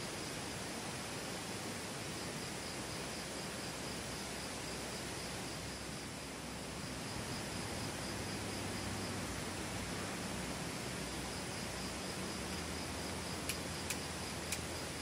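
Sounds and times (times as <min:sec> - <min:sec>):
outdoor background hiss: 0:00.0 - 0:15.0
insect chirping in pulses: 0:01.6 - 0:15.0.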